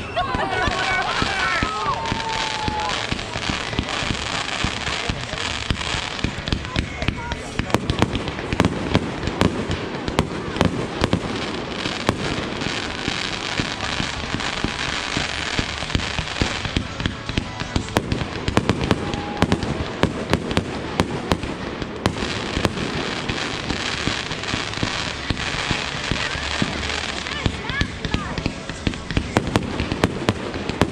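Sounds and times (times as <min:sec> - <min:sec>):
fireworks bangs and crackles: 0:00.0 - 0:30.9
continuous rumble: 0:00.3 - 0:30.9.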